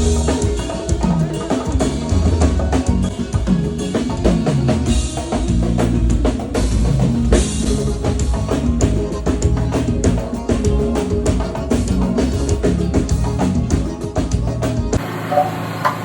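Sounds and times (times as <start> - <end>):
drums playing a groove: 0.0 - 15.1
sliding bass notes: 0.0 - 16.0.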